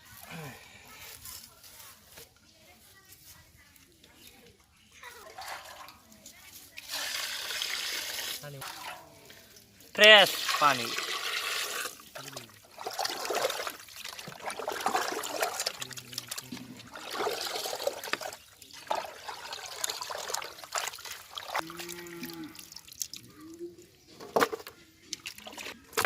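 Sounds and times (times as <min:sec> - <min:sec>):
water splashing and trickling: 0:05.0 - 0:26.0.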